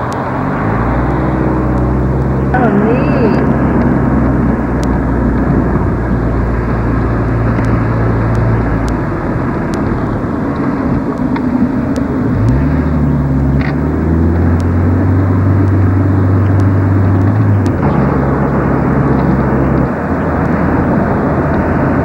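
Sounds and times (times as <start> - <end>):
steady rushing noise: 0.0 - 22.0
vehicle engine humming: 0.0 - 22.0.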